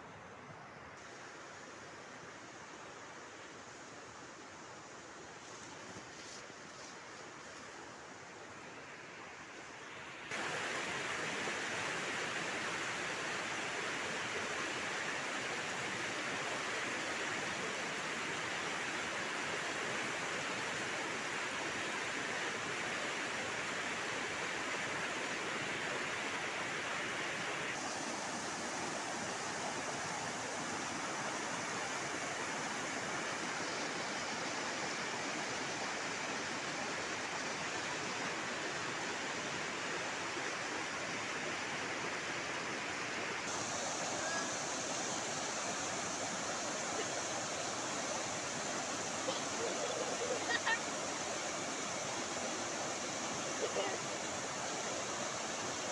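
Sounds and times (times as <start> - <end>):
rushing river water: 0.0 - 55.9.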